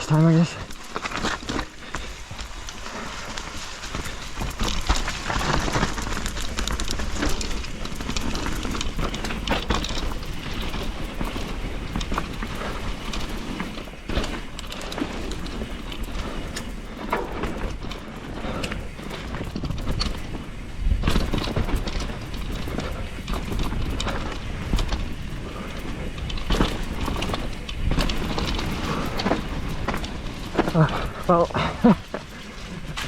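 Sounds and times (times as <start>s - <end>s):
bike clicks and rattles: 0.0s - 33.0s
bike rushing over rough ground: 0.0s - 33.0s.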